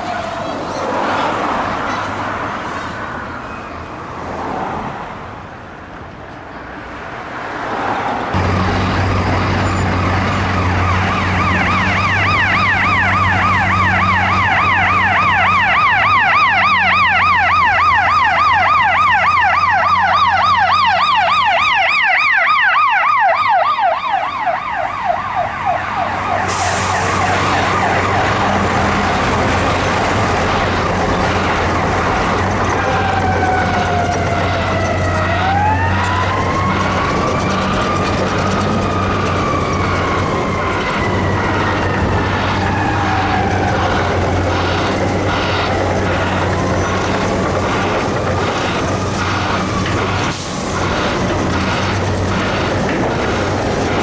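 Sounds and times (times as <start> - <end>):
traffic noise: 0.0 - 54.0
ambulance siren yelping: 8.3 - 54.0
fire engine siren: 8.3 - 54.0.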